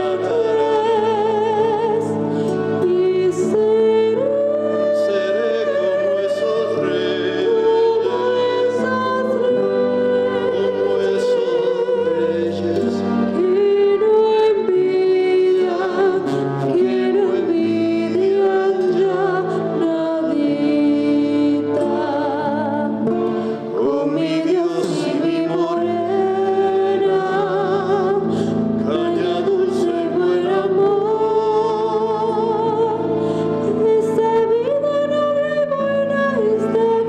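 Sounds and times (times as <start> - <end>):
acoustic guitar: 0.0 - 37.0
woman and man singing: 0.0 - 37.0.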